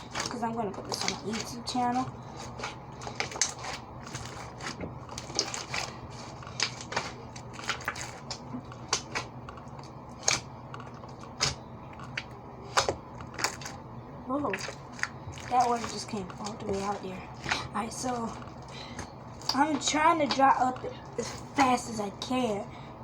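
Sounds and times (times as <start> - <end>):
hands handling slime: 0.0 - 13.8, 14.5 - 21.8
steady low hum: 0.0 - 23.0.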